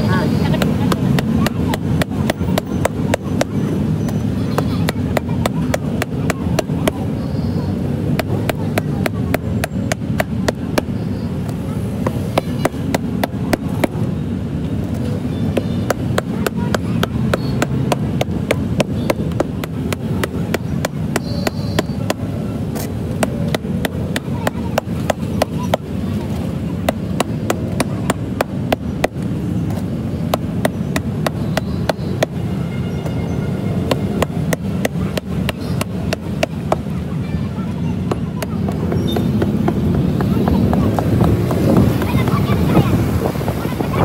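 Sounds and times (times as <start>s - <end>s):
hammer tapping on rubber: 0.5s - 7.1s, 7.9s - 14.1s, 14.9s - 26.0s, 26.8s - 32.4s, 33.0s - 37.0s, 38.0s - 42.3s.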